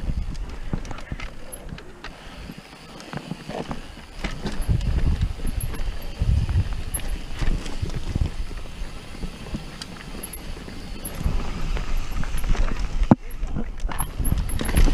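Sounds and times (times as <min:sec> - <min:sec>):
wind buffeting microphone: 0:00.0 - 0:02.6, 0:03.8 - 0:14.9
bike rattling and knocking: 0:00.0 - 0:14.9
tyres rumbling on dirt: 0:00.0 - 0:14.9.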